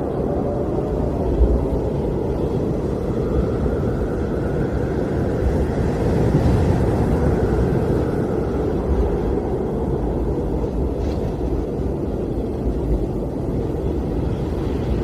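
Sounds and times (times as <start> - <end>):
blizzard wind blowing: 0.0 - 15.0
deep rumble: 0.0 - 15.0.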